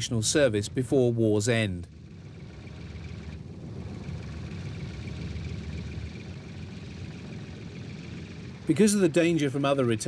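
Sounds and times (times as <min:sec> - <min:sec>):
engine rumbling: 0:00.0 - 0:10.0
faint thin whine: 0:00.0 - 0:10.0.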